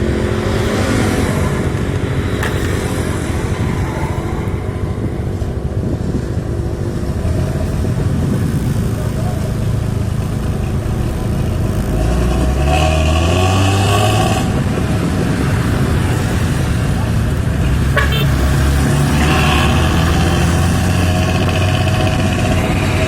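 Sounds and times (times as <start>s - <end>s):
bus diesel engine revving: 0.0s - 23.0s.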